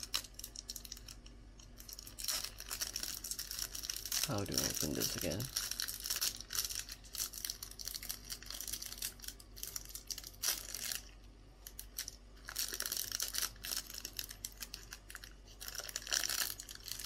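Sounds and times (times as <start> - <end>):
plastic wrapper crinkling and tearing: 0.0 - 17.0.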